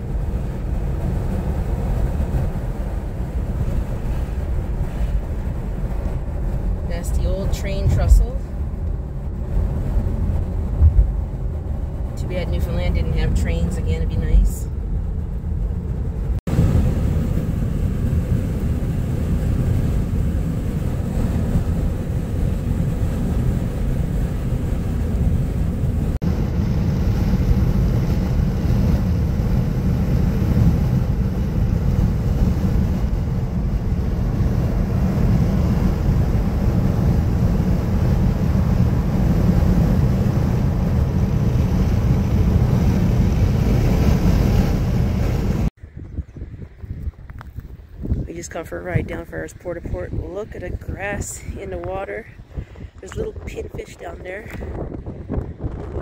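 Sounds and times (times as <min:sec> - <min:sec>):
car road and wind rumble: 0:00.0 - 0:56.0.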